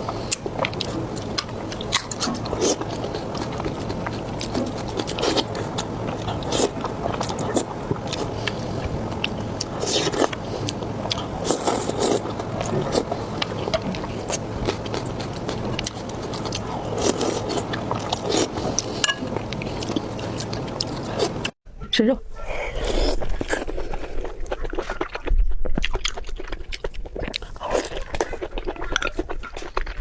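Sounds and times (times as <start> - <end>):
person biting and chewing food: 0.0 - 21.6, 22.6 - 30.0.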